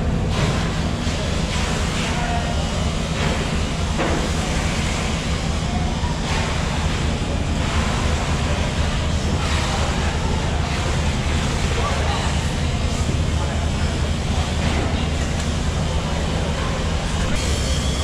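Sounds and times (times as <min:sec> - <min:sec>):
fish market background rumble: 0:00.0 - 0:18.0.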